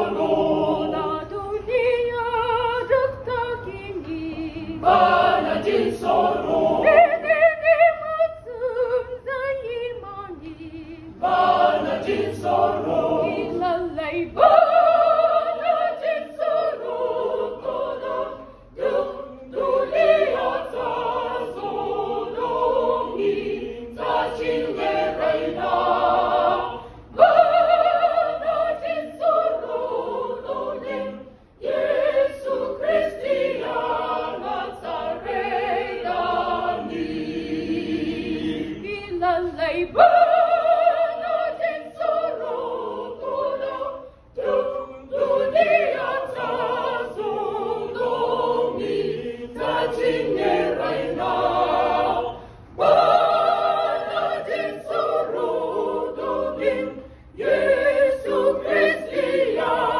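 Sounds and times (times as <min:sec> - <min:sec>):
young voices singing a cappella: 0:00.0 - 0:59.9.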